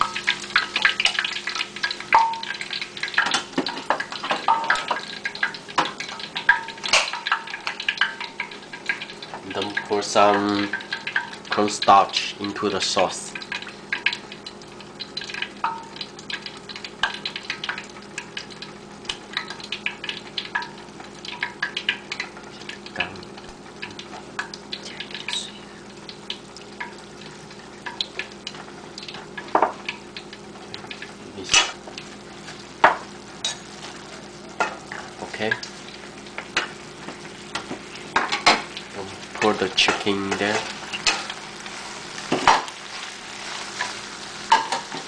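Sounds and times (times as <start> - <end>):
sauce sizzling: 0.0 - 45.0.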